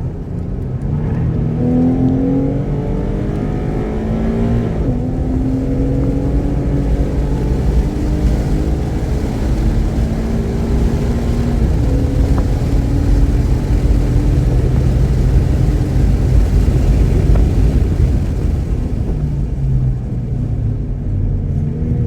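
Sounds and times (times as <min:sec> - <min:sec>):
car engine running hard: 0:00.0 - 0:22.0
road and wind rumble: 0:00.0 - 0:22.0.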